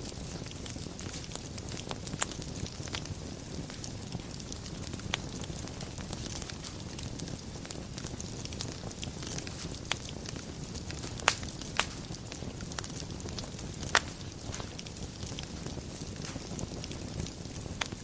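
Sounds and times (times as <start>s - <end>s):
fire crackling: 0.0s - 18.0s
sharp fire pops: 0.0s - 18.0s.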